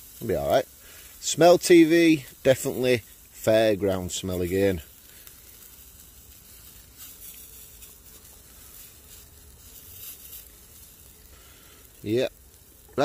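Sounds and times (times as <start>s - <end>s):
sausages sizzling over fire: 0.0s - 13.0s
wood fire crackling: 0.0s - 13.0s.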